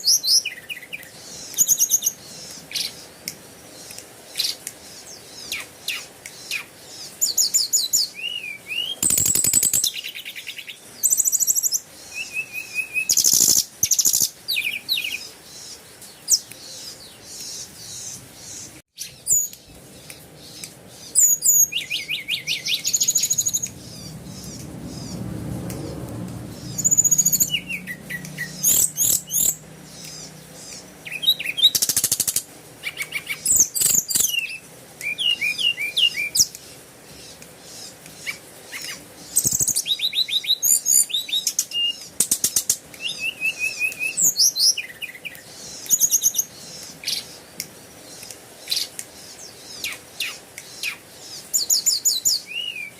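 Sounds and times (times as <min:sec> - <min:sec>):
birds chirping with trilled notes: 0:00.0 - 0:52.9.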